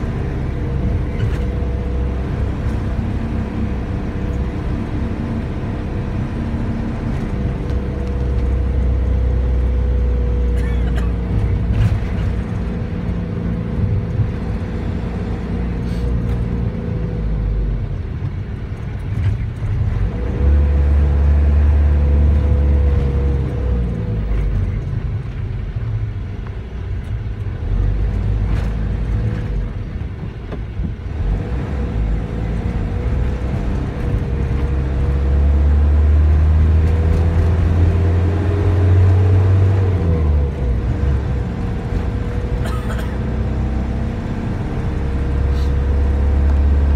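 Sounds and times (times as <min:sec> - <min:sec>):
engine and road rumble: 0:00.0 - 0:46.9.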